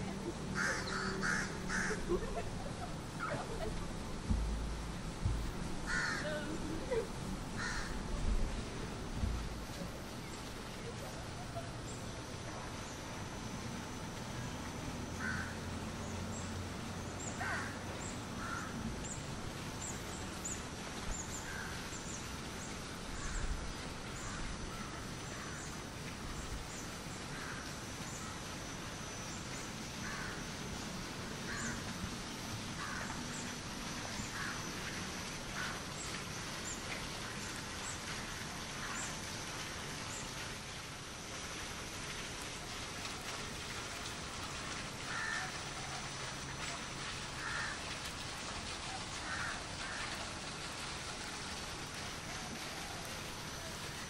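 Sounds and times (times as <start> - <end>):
outdoor background hiss: 0.0 - 54.0.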